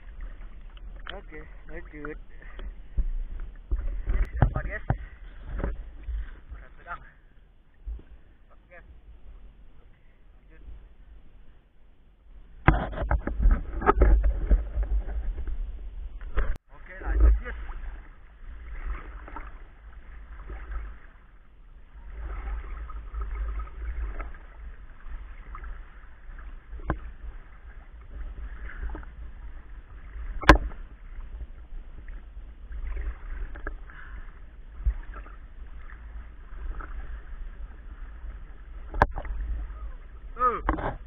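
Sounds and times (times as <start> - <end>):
water sloshing and splashing: 0.0 - 10.1, 12.4 - 41.0.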